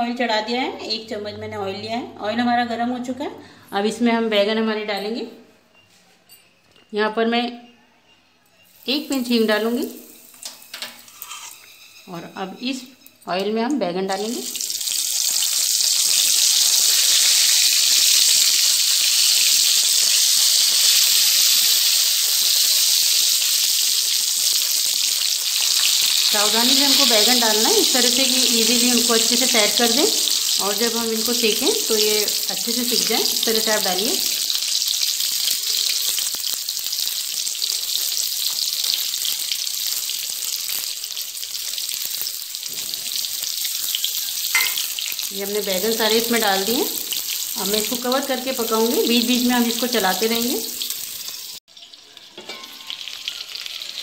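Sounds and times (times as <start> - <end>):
hot oil sizzling: 8.6 - 54.0.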